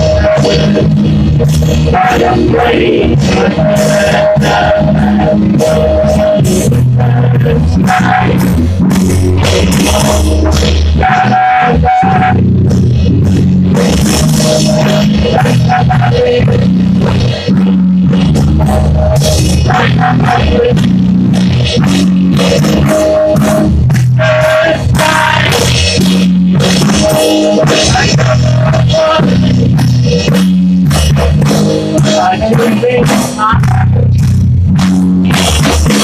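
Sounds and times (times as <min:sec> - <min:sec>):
man singing: 0:00.0 - 0:21.2, 0:22.6 - 0:29.9, 0:31.9 - 0:34.3
drums: 0:00.0 - 0:36.0
electric guitar: 0:00.0 - 0:36.0.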